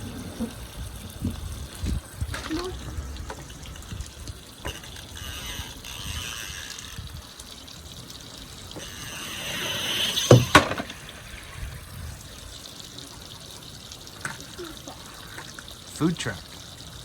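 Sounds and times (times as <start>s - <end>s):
water running down a slide: 0.0s - 17.0s.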